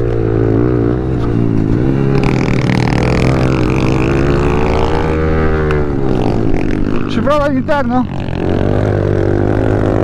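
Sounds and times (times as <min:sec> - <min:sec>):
motorbike engine revving: 0:00.0 - 0:10.0.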